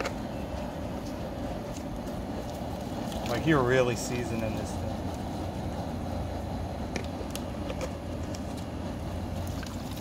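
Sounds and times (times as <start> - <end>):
propane burner roaring: 0.0 - 10.0.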